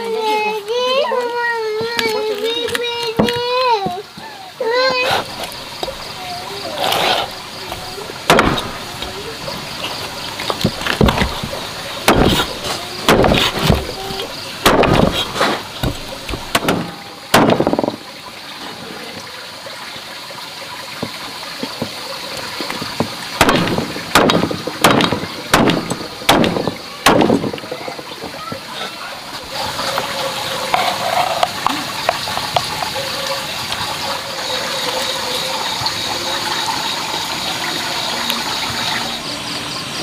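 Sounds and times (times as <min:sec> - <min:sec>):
steady hiss: 0:00.0 - 0:40.0
water splashing and sloshing: 0:00.0 - 0:40.0.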